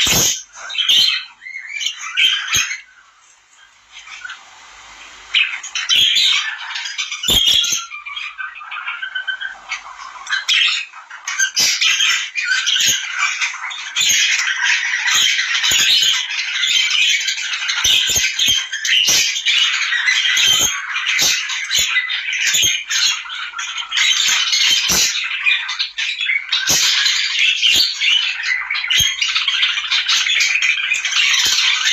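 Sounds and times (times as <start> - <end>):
small birds chattering: 0.0 - 31.9.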